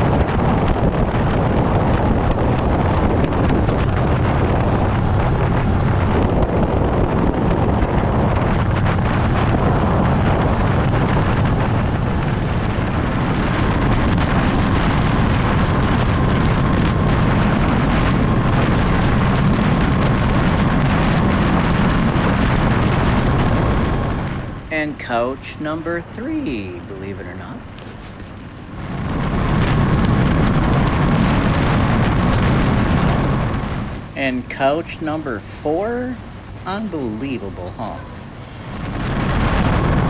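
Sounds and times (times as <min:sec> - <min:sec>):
wind rush on microphone: 0:00.0 - 0:40.0.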